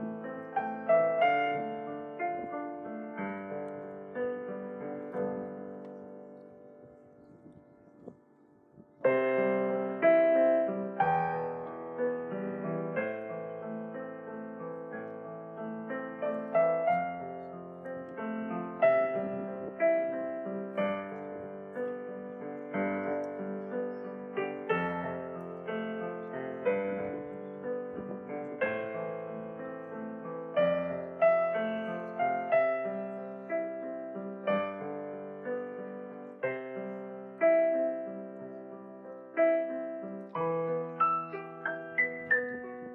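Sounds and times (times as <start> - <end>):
gentle solo piano: 0.0 - 42.9.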